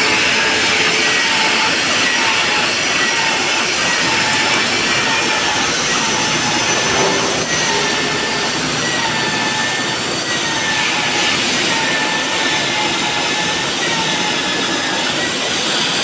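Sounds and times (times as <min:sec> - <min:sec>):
magnetic drill drilling steel: 0:00.0 - 0:16.0.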